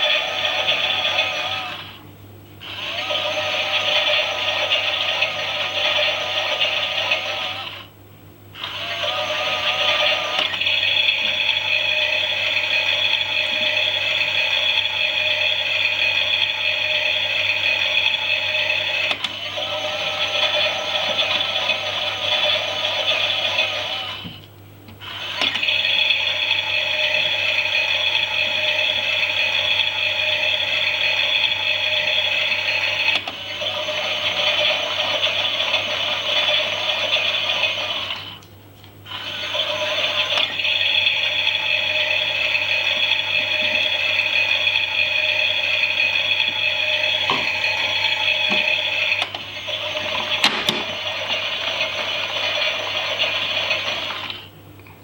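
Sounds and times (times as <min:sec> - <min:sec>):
toy motor whining: 0:00.0 - 0:02.0, 0:02.6 - 0:07.9, 0:08.6 - 0:24.4, 0:25.0 - 0:38.4, 0:39.1 - 0:54.5.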